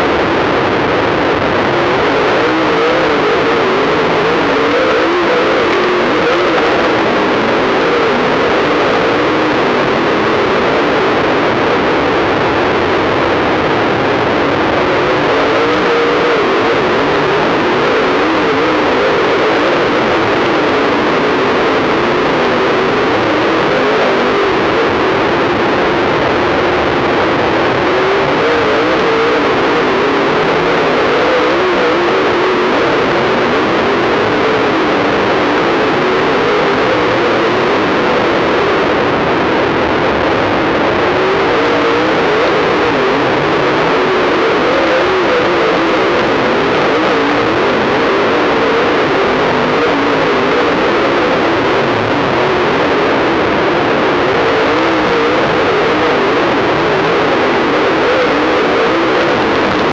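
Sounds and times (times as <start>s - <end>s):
distorted race car engine: 0.0s - 59.9s.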